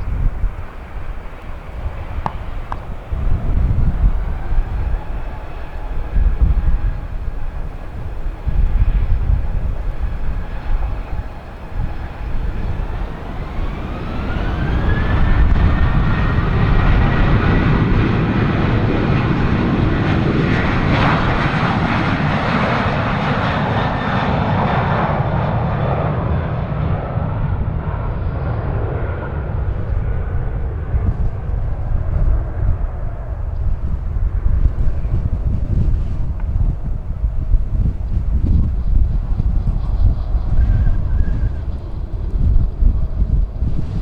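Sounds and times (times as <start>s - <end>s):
airliner takeoff roar: 0.0s - 44.0s
jet engines spooling up: 0.1s - 44.0s.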